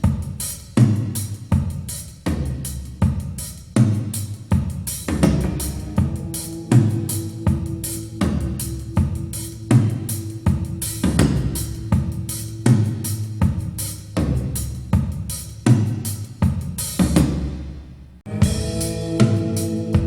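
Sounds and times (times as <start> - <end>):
music with drum-kit beat: 0.0 - 17.5, 18.3 - 20.0.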